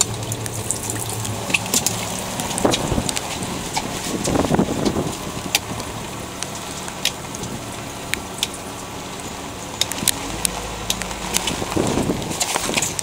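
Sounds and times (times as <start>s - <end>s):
raindrops tapping close by: 0.0s - 13.0s.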